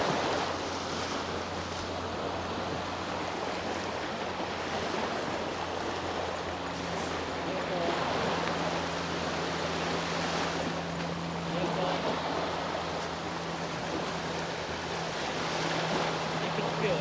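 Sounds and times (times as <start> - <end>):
boat engine humming: 0.0 - 17.0
sea waves washing on shore: 0.0 - 17.0.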